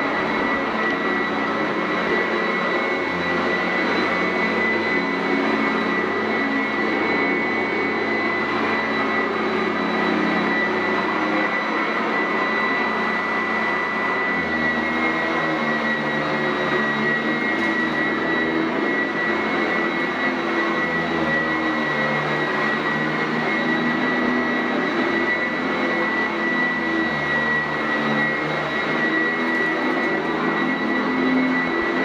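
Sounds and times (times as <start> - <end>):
upright vacuum running on carpet: 0.0 - 32.0.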